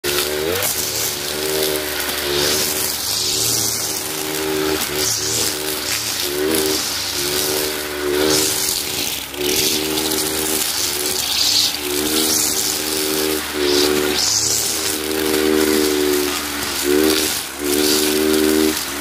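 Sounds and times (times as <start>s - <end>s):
brush cutter engine running: 0.0s - 19.0s
swish of cut grass: 0.0s - 19.0s.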